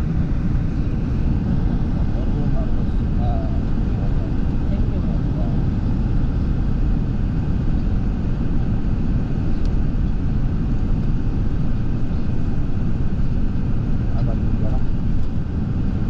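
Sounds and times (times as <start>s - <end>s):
vehicle interior rumble: 0.0s - 16.0s.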